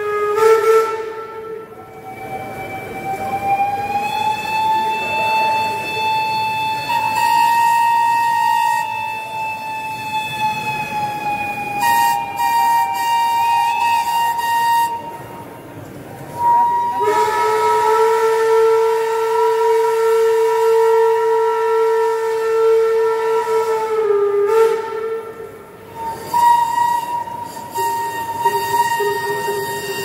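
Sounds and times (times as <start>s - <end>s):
steam locomotive whistles: 0.0s - 30.0s.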